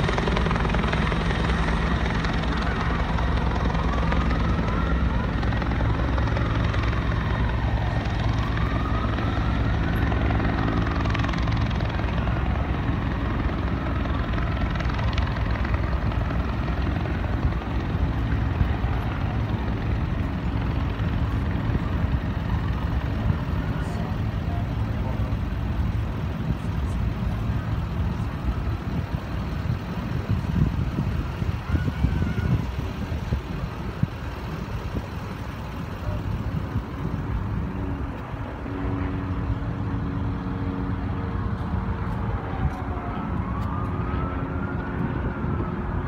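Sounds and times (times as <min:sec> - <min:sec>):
faint siren wail: 0:00.0 - 0:46.0
helicopter drone: 0:00.0 - 0:46.0.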